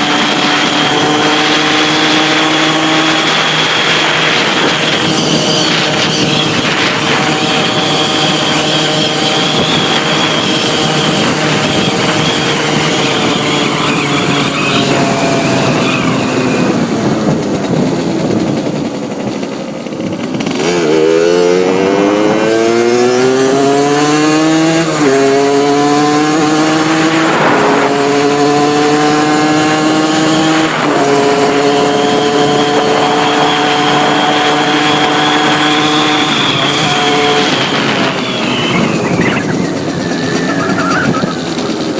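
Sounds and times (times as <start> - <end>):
two-stroke motorcycle engine revving: 0.0 - 41.9.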